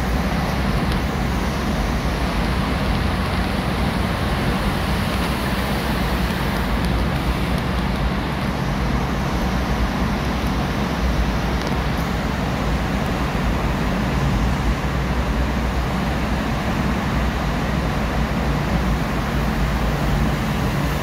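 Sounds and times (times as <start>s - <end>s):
car road noise in cabin: 0.0s - 21.0s.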